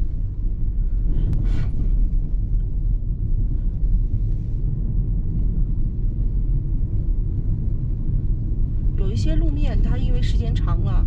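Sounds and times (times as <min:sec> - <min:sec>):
car interior road and engine rumble: 0:00.0 - 0:11.0.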